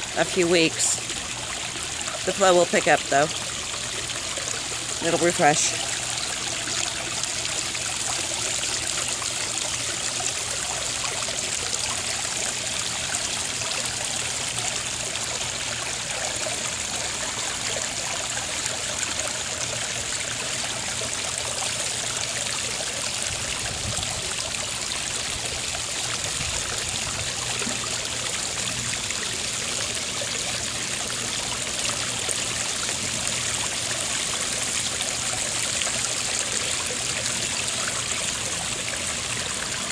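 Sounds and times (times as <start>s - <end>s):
pond waterfall trickling: 0.0s - 39.9s.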